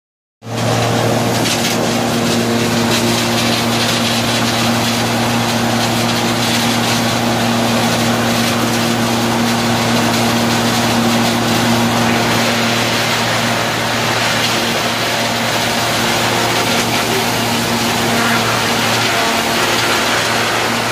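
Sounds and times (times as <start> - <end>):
belt-driven machine humming and whirring: 0.4 - 20.9.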